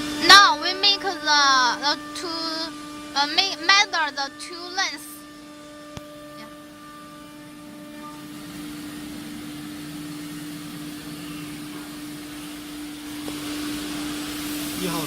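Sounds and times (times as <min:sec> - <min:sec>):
machine hiss: 0:00.0 - 0:15.0
router machinery humming: 0:00.0 - 0:15.0.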